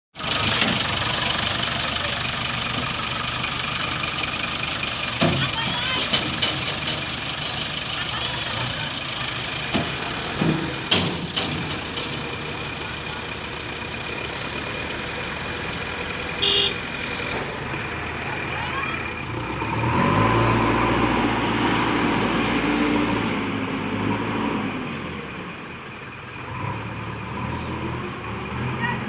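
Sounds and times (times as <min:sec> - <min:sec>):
diesel engine working: 0:00.2 - 0:29.0.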